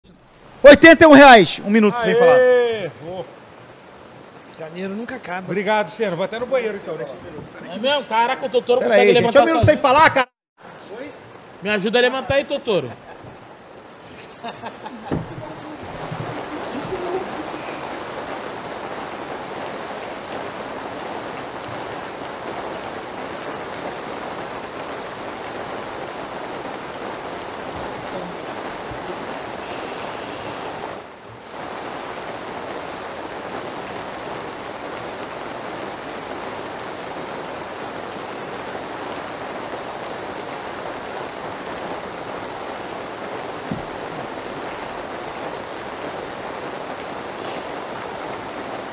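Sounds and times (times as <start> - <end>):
rainfall hiss: 0.0 - 48.9.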